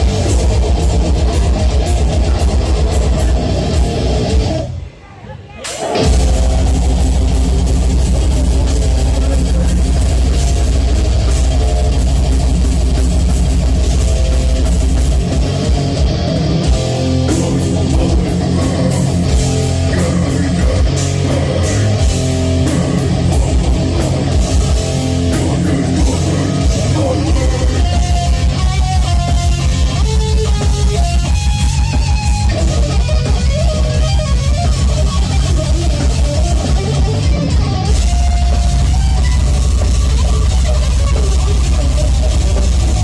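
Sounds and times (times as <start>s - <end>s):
heavy metal band playing: 0.0s - 43.0s.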